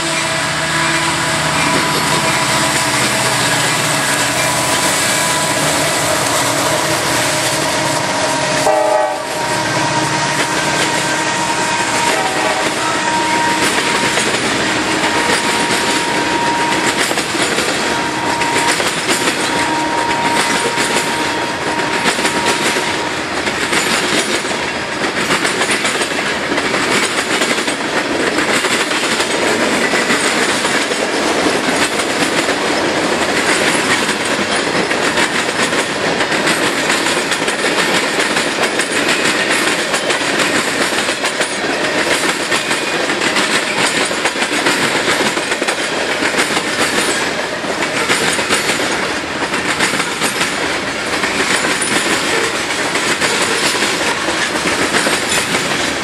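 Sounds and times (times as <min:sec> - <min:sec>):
diesel locomotives passing: 0:00.0 - 0:56.0
train wheels clattering over rail joints: 0:00.0 - 0:56.0.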